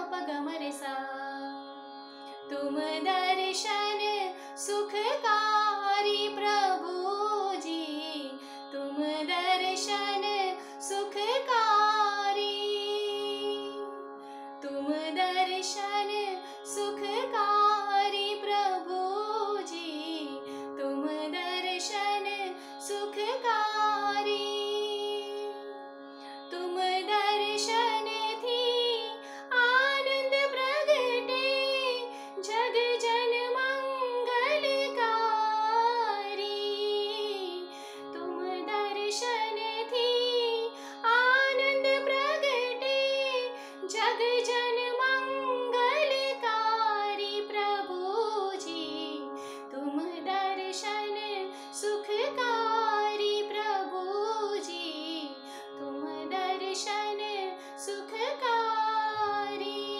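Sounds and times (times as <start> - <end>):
woman singing a hymn: 2.5 - 13.8, 14.6 - 25.4, 26.6 - 59.9.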